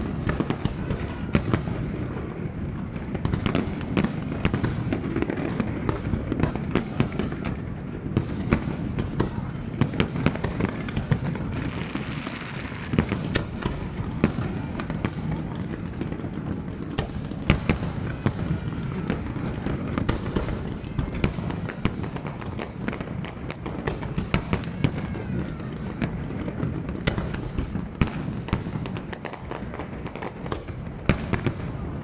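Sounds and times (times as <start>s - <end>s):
firework bangs: 0.0s - 32.0s
firework crackling: 0.0s - 32.0s.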